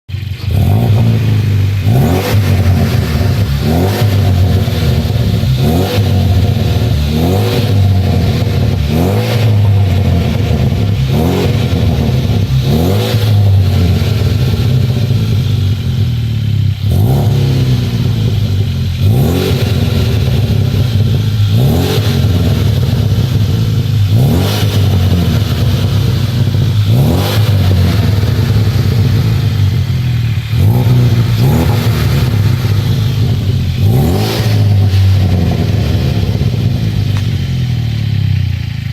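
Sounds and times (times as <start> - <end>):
car engine revving: 0.1 - 38.9.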